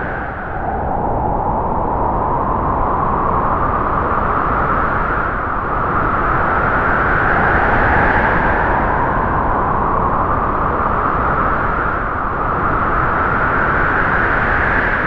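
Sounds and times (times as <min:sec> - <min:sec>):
strong wind howling: 0:00.0 - 0:15.0.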